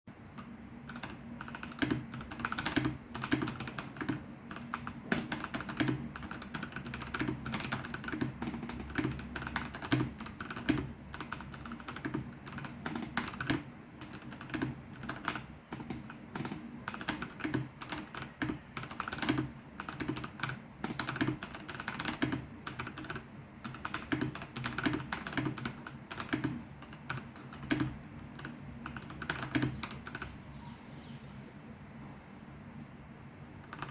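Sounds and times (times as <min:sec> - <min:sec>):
low steady hum: 0:00.1 - 0:33.9
computer keyboard typing: 0:00.2 - 0:30.4, 0:33.6 - 0:33.9.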